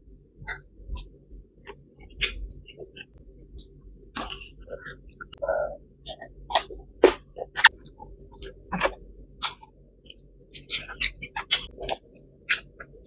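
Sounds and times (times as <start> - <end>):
person chewing food: 2.0 - 13.0.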